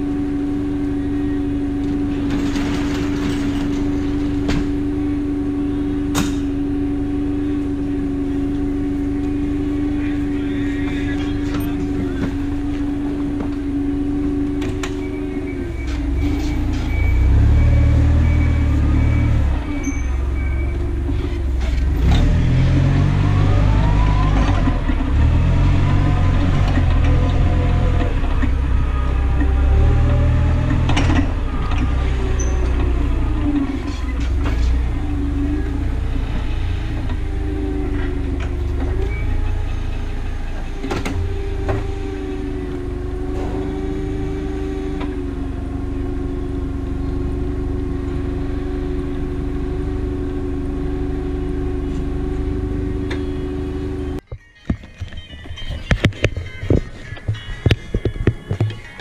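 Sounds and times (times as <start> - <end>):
heavy low rumble: 0.0 - 54.2
diesel truck engine driving: 0.0 - 59.0.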